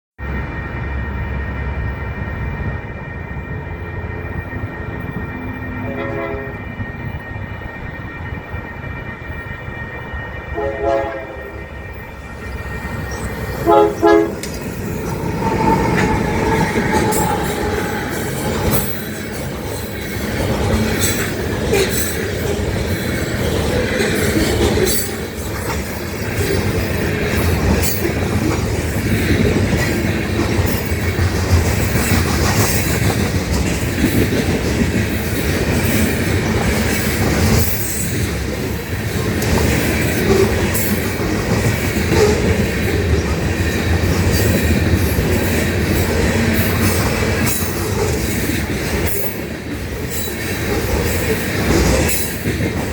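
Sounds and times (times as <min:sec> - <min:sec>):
freight train rumbling past: 0:00.2 - 0:52.9.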